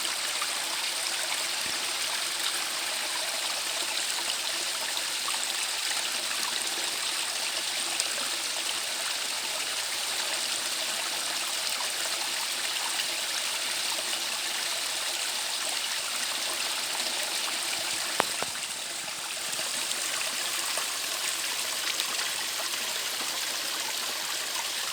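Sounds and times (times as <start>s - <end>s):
stream running over its bed: 0.0s - 24.9s.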